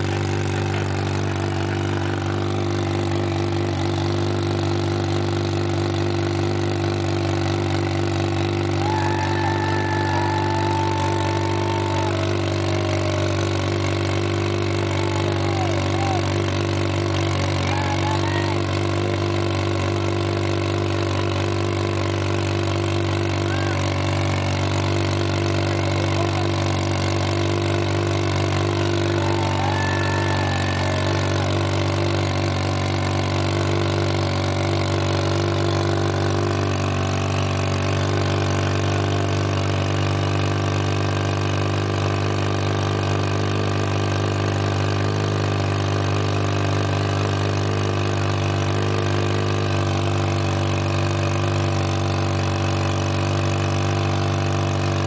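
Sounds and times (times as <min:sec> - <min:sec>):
motorcycle engine revving high: 0:00.0 - 0:55.0
rear tyre spinning: 0:00.0 - 0:55.0.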